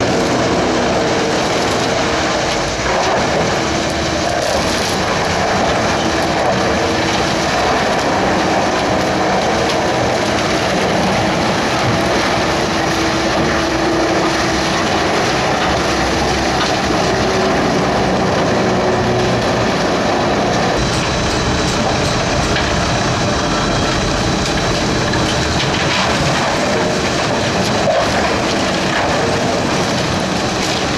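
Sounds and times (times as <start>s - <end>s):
wood chipper running: 0.0s - 30.9s.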